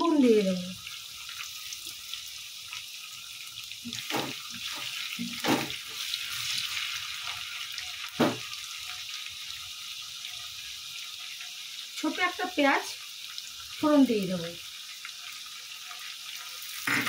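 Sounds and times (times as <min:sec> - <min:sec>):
potatoes sizzling in hot oil: 0:00.0 - 0:17.0.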